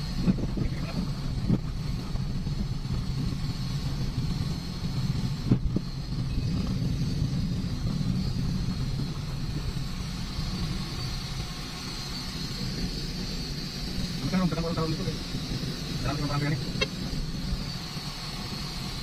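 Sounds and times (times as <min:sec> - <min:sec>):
car engine rumble and road noise: 0:00.0 - 0:19.0.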